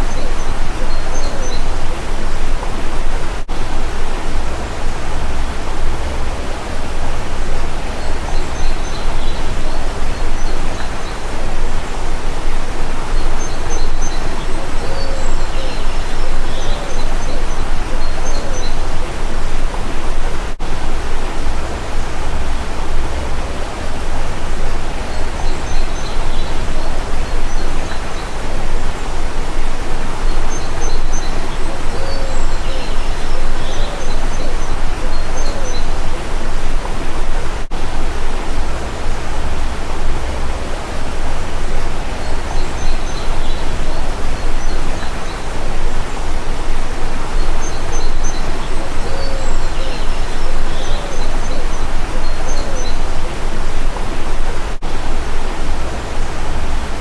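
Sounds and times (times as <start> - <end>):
faint bird chirps: 0.0 - 3.3, 3.9 - 20.4, 23.0 - 37.4, 41.0 - 54.7
stream water rushing: 0.0 - 57.0.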